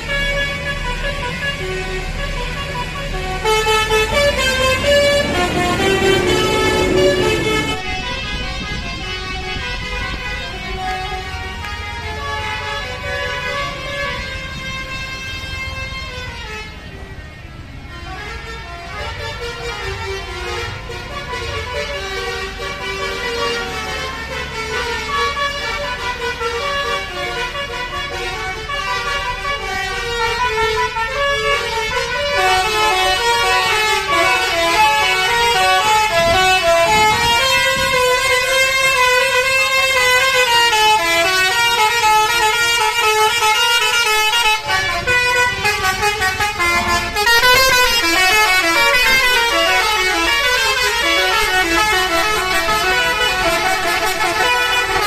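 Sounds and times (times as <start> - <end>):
musical bus horn tune: 0.0 - 55.0.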